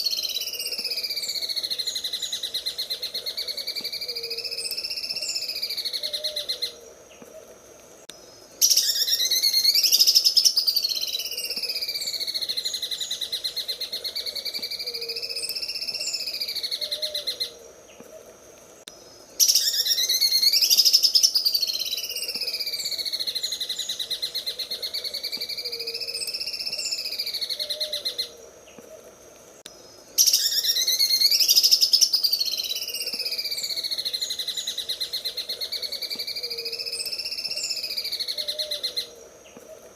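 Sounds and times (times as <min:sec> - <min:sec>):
bird singing fast rattling song: 0:00.0 - 0:06.7, 0:08.2 - 0:17.5, 0:19.0 - 0:28.3, 0:29.7 - 0:39.6.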